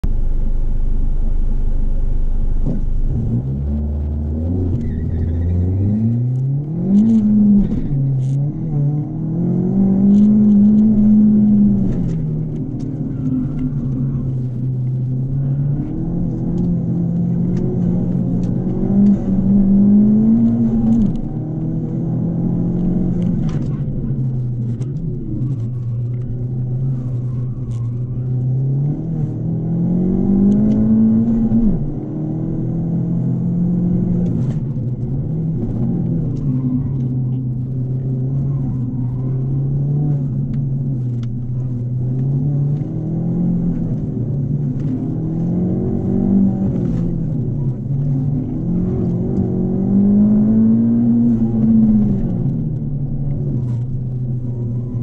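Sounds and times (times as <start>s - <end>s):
turbocharged car engine revving: 0.0s - 55.0s.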